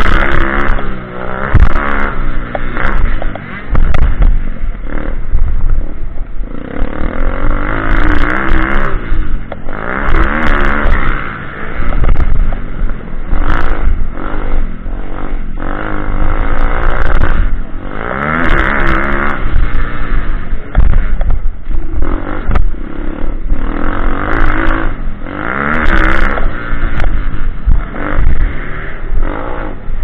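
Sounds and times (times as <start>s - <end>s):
clatter: 0.0s - 30.0s
motorbike engine revving: 0.0s - 30.0s.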